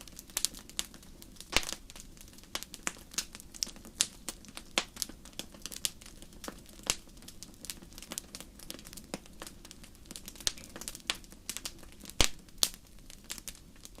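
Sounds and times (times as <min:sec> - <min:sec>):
wood fire crackling: 0:00.0 - 0:14.0
sharp fire pops: 0:00.1 - 0:14.0.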